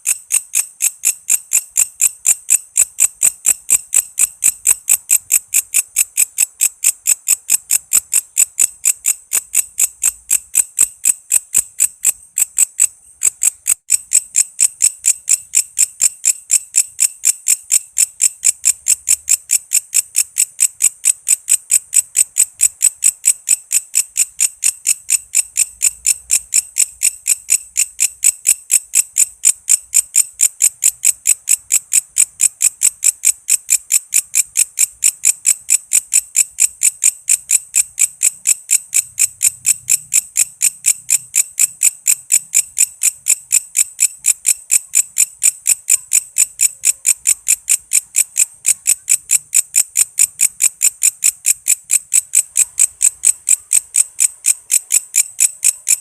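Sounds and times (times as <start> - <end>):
insect chirping: 0.0 - 56.0.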